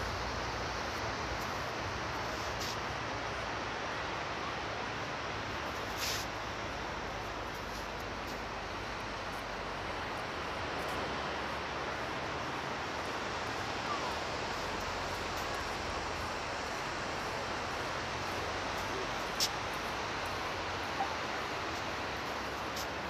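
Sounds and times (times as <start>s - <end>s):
rushing outdoor background noise: 0.0s - 23.0s.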